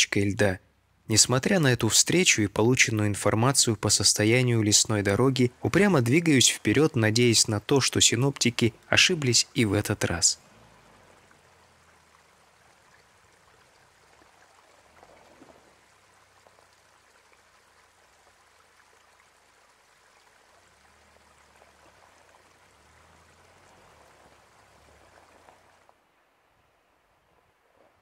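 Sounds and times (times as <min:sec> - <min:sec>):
small stream trickling: 0:00.4 - 0:28.0.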